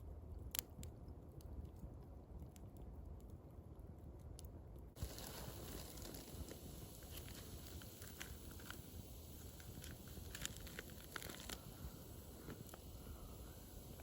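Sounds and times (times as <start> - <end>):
low steady background rush: 0.0 - 14.0
campfire crackling and popping: 0.2 - 14.0.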